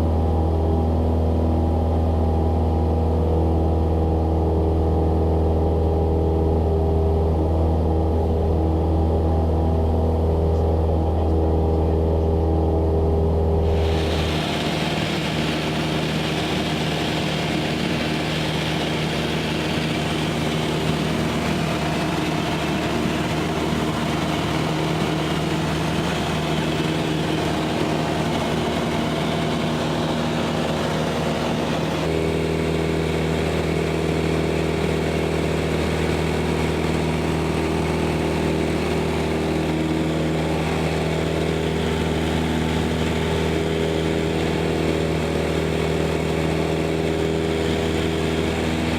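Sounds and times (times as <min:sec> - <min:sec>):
airplane engine and propeller drone: 0:00.0 - 0:48.9.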